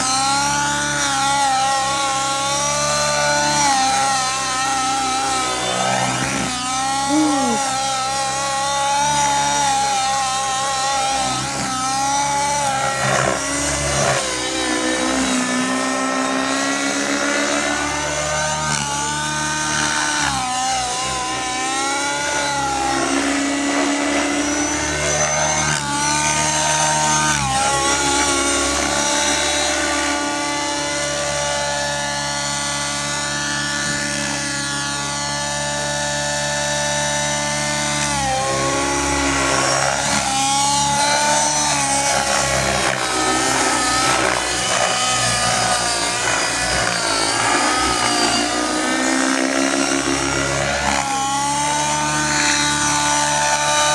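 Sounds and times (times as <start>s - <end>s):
rc helicopter engine and rotor: 0.0s - 53.9s.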